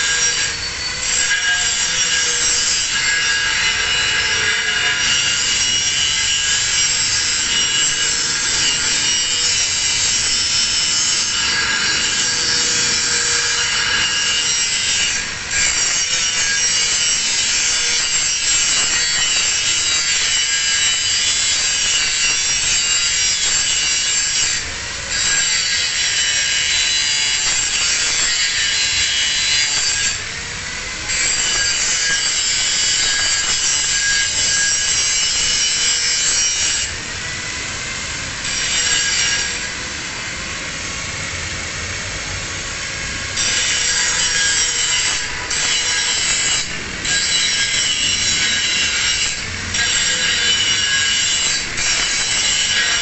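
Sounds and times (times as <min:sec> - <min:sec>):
angle grinder grinding steel: 0:00.0 - 0:39.8, 0:43.2 - 0:53.0.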